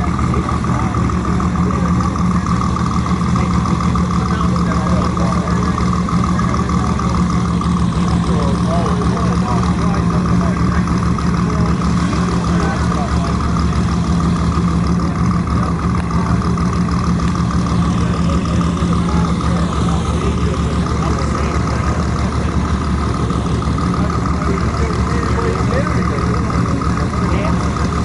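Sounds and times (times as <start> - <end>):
car engine idling: 0.0 - 28.0
crowd chatter: 0.0 - 28.0.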